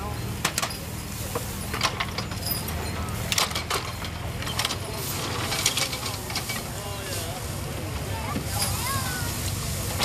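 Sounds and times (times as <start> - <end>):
low rumble of machinery: 0.0 - 10.0.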